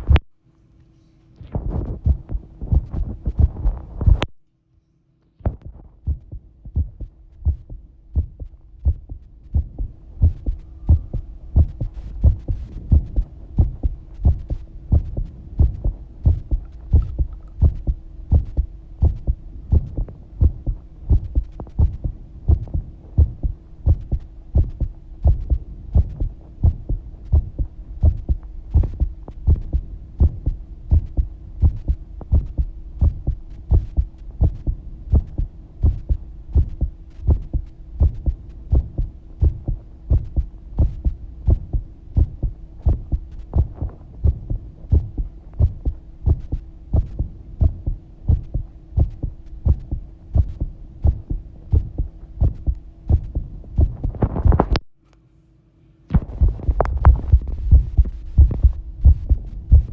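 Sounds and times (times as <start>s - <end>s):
heartbeat thumps: 0.0s - 0.3s, 1.4s - 4.3s, 5.4s - 54.9s, 56.1s - 59.9s
faint steady hum: 0.0s - 59.9s.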